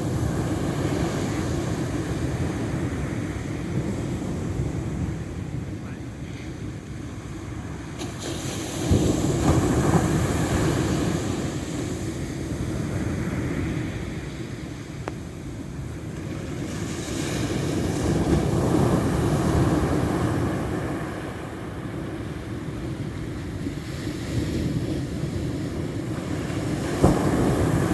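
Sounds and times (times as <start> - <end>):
ocean waves surging: 0.0 - 27.9.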